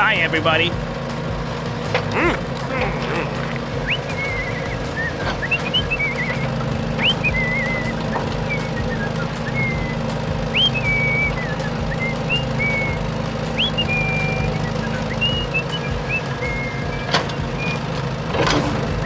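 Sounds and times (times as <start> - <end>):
steady low hum: 0.0 - 19.0
whistle-like calls: 2.1 - 18.0.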